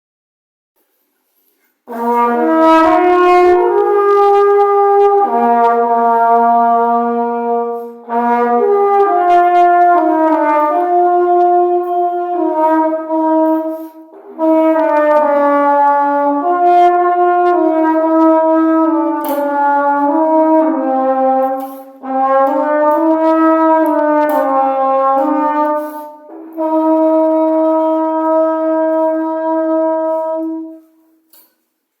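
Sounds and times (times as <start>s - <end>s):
alto horn playing slow melody: 1.9s - 31.3s.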